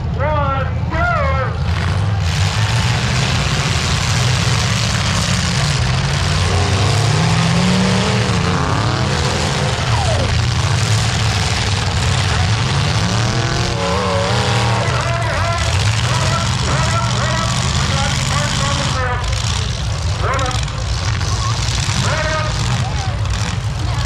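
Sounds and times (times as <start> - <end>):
car engines revving loudly: 0.0 - 24.0.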